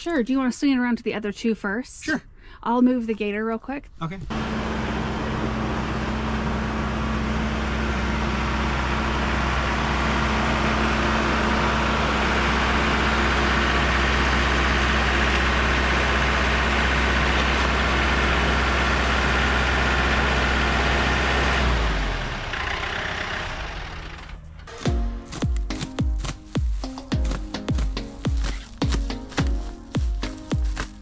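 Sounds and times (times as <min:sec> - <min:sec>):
tractor diesel engine running: 0:04.3 - 0:31.0.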